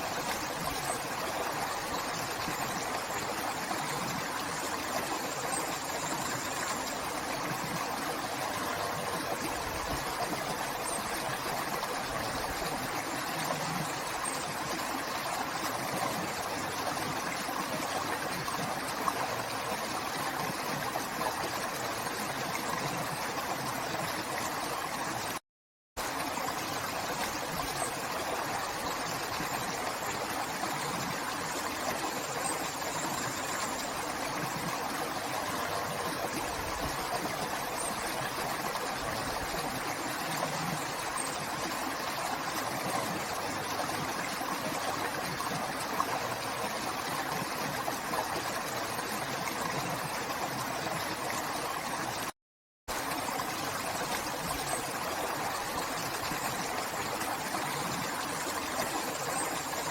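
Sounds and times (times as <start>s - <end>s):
river water flowing: 0.0s - 25.4s, 26.0s - 52.3s, 52.9s - 59.9s.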